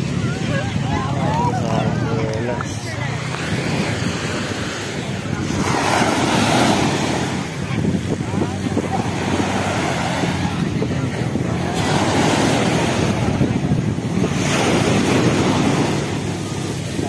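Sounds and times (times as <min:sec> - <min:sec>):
small waves breaking on sand: 0:00.0 - 0:17.0
wind buffeting microphone: 0:00.0 - 0:17.0.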